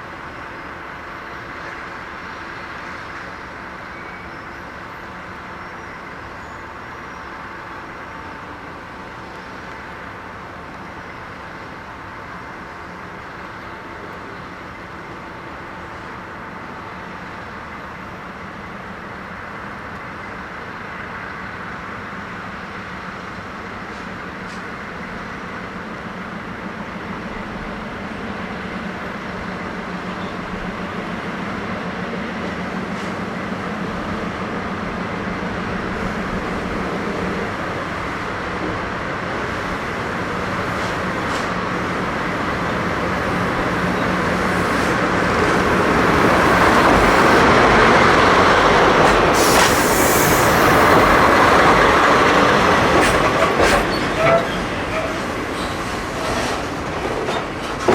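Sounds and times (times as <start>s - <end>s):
train approaching on rails: 0.0s - 57.9s.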